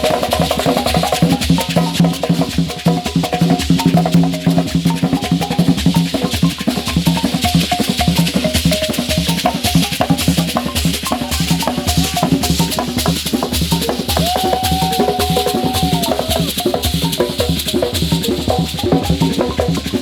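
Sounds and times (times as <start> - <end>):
drums and shakers: 0.0 - 20.0.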